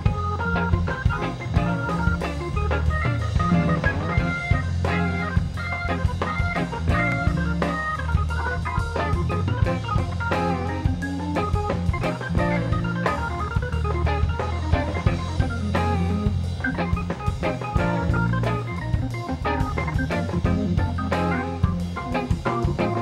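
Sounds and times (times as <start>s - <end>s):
electric guitar: 0.0s - 23.0s
organ: 0.0s - 23.0s
drum beat: 0.1s - 23.0s.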